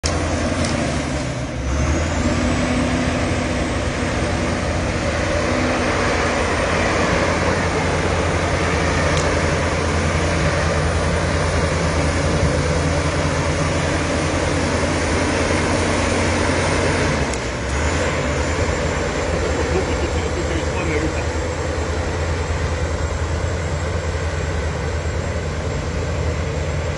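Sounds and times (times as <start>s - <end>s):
bulldozer diesel engine running hard: 0.0s - 26.9s.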